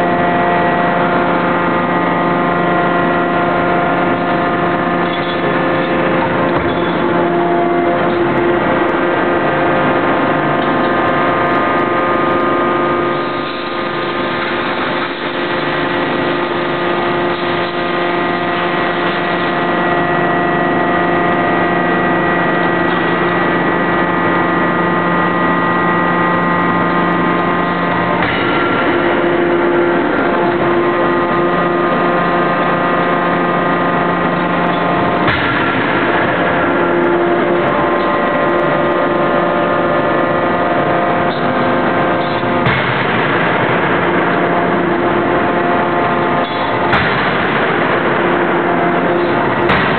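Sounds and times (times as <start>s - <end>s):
hydraulic machine humming: 0.0s - 49.9s.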